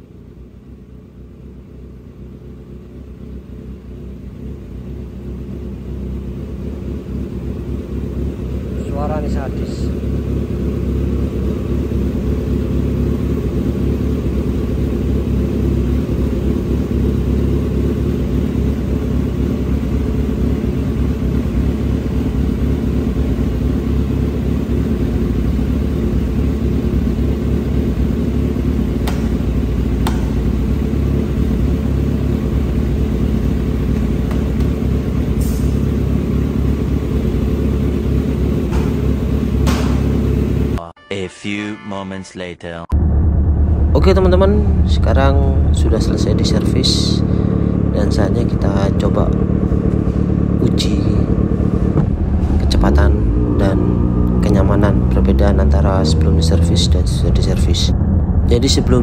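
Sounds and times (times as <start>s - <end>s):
motorcycle engine rumbling: 0.0s - 40.8s, 42.9s - 59.0s.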